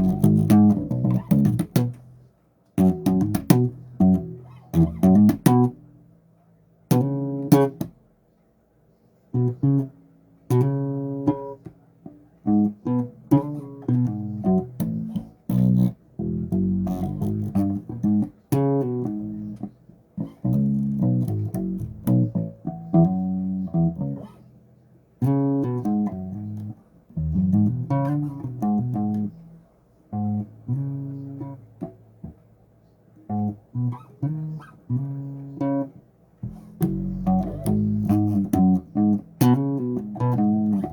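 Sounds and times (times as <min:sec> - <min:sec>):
bass guitar plucked notes: 0:00.0 - 0:02.2, 0:02.8 - 0:05.9, 0:06.9 - 0:07.9, 0:09.4 - 0:11.7, 0:12.4 - 0:24.5, 0:25.2 - 0:32.4, 0:33.2 - 0:40.9.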